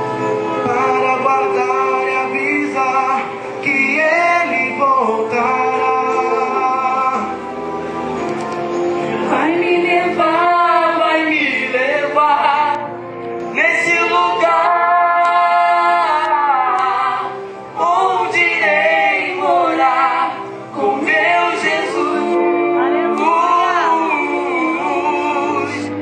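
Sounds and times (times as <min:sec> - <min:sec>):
man and woman singing gospel: 0:00.5 - 0:07.4, 0:09.2 - 0:12.9, 0:13.5 - 0:26.0.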